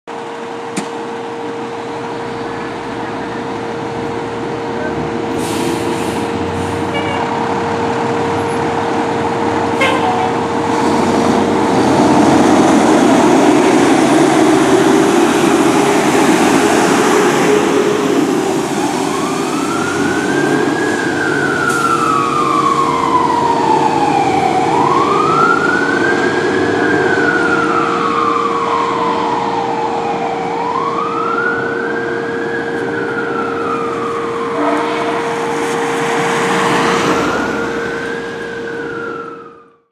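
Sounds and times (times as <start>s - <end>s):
fire truck engine passing: 0.1s - 39.9s
siren wailing: 6.9s - 39.8s.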